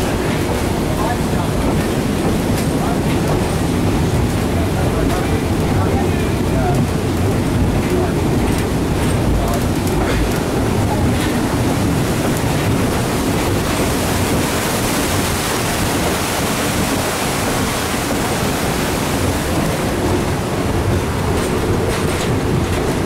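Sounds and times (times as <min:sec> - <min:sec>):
creek rapids: 0:00.0 - 0:23.0
train rushing noise: 0:00.0 - 0:23.0.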